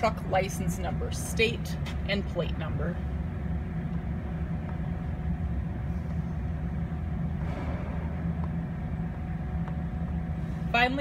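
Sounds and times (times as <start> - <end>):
heavy machinery rumbling: 0.0 - 11.0.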